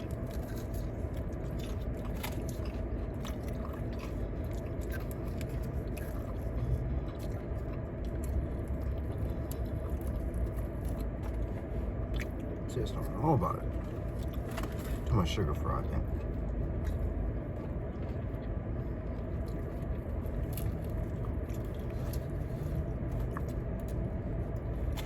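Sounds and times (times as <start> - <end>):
person biting and chewing food: 0.0 - 12.7, 13.6 - 15.1, 16.1 - 25.0
steady low hum: 0.0 - 25.0.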